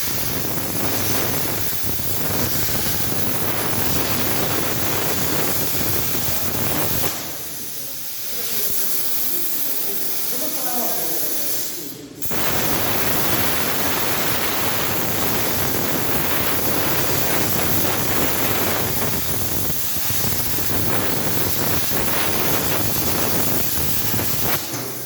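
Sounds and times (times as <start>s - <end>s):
plasma torch cutting hiss: 0.0s - 25.0s.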